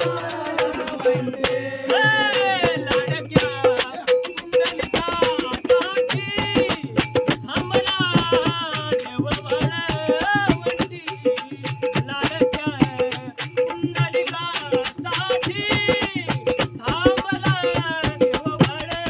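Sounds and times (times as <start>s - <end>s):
fast hand percussion: 0.0s - 19.0s
person singing devotional melody: 0.0s - 19.0s.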